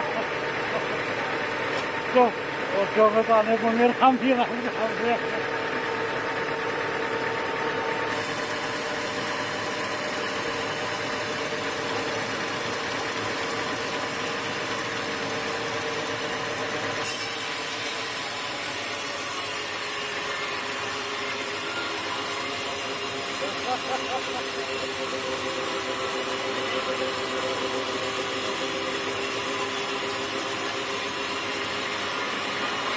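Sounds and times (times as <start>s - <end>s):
sawmill machinery running: 0.0s - 32.9s.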